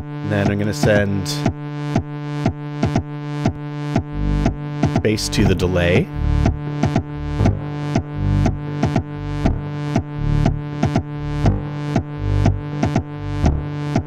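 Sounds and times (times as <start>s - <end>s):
steady bass tone: 0.0s - 14.0s
kick drum: 0.9s - 5.6s, 6.4s - 14.0s.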